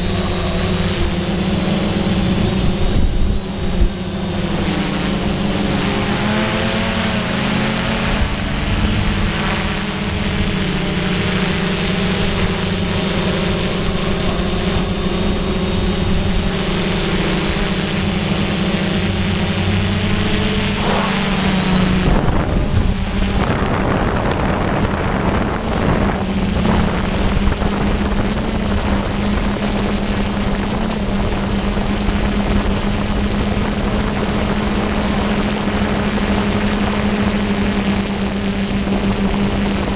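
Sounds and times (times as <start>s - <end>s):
drone motors humming: 0.0s - 39.9s
wind rushing over microphone: 0.0s - 39.9s.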